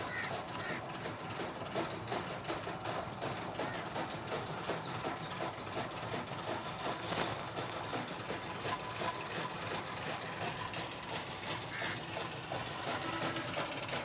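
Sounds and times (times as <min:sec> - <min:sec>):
rabbits munching greens: 0:00.0 - 0:14.0.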